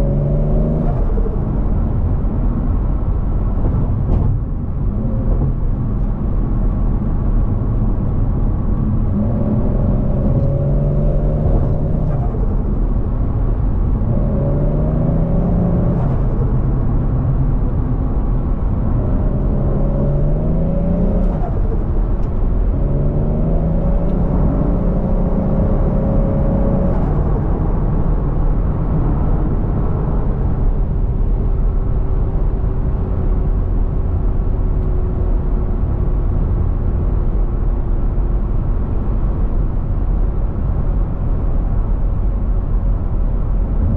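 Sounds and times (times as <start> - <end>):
car engine accelerating: 0.0 - 37.4.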